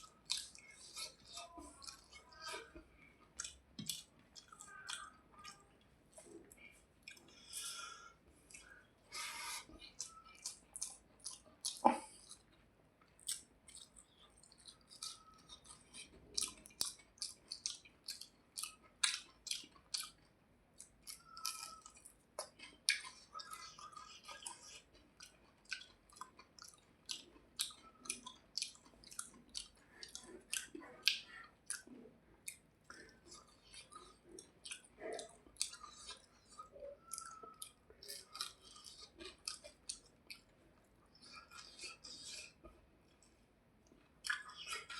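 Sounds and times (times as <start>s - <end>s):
person chewing with wet smacks: 0.0s - 44.9s.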